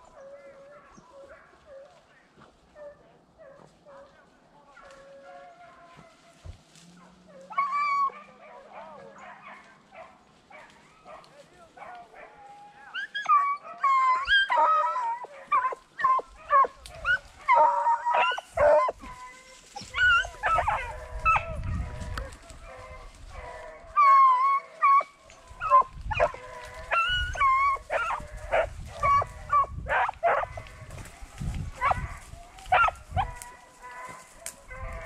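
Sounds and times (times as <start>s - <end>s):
dogs baying and howling: 0.0s - 35.0s.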